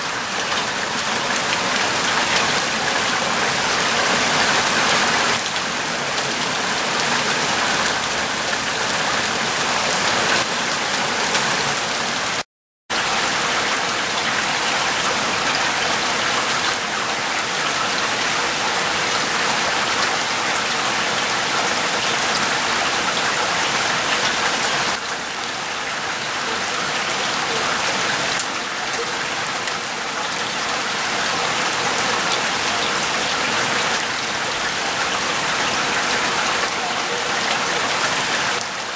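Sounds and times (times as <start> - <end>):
heavy rain on grass: 0.0 - 38.9.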